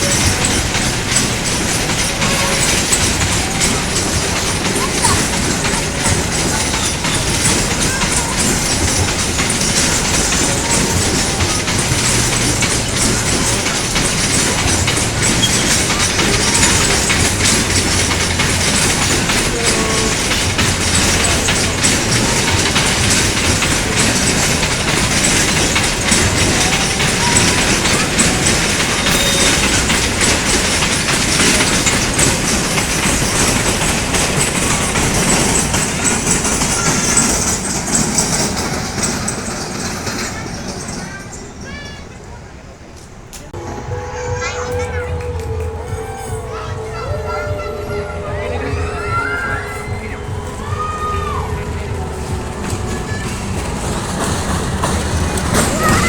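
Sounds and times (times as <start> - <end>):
train wheels clattering: 0.0 - 56.0.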